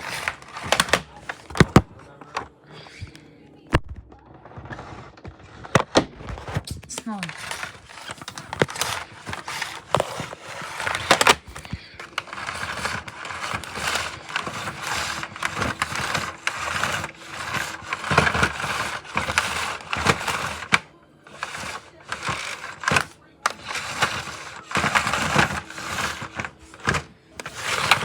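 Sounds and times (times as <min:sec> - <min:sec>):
plastic clicks and knocks: 0:00.0 - 0:02.5, 0:03.1 - 0:28.0.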